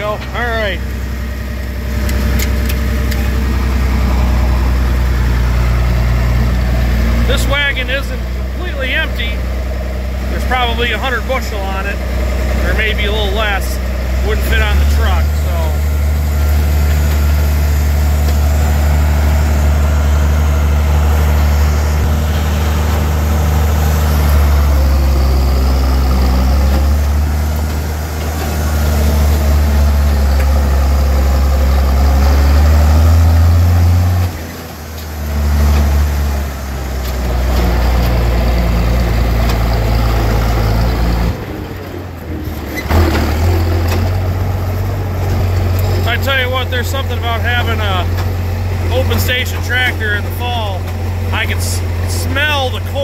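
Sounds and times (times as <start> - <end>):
tractor engine droning: 0.0 - 53.0.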